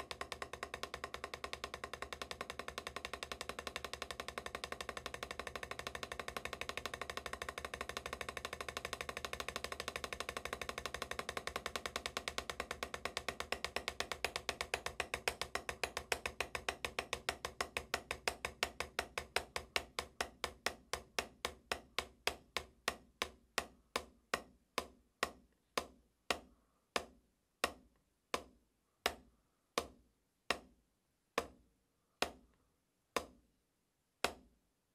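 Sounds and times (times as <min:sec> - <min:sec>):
drumsticks on practice pad: 0:00.0 - 0:30.8, 0:31.4 - 0:31.6, 0:32.2 - 0:33.4, 0:34.2 - 0:34.5.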